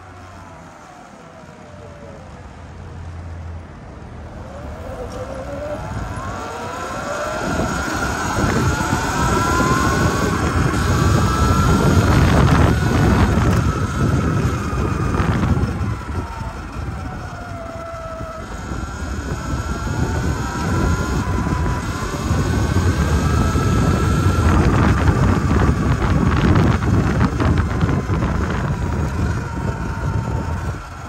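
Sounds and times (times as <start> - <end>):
electric motor whine: 4.2 - 31.0
wind rush on microphone: 4.2 - 31.0.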